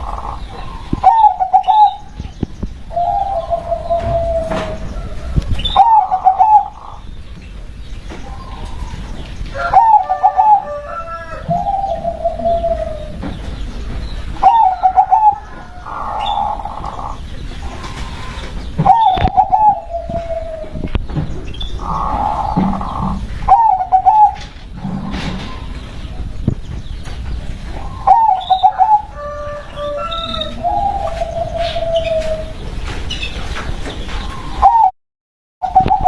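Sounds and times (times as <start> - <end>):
dove cooing: 0.0 - 2.2, 2.8 - 7.1, 8.2 - 13.4, 14.4 - 26.3, 27.7 - 32.6, 34.2 - 34.9, 35.6 - 36.0.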